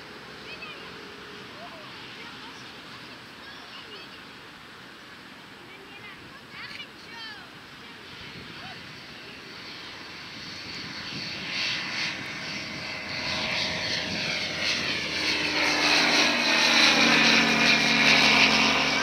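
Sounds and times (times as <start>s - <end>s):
propeller plane flying over: 0.0s - 19.0s.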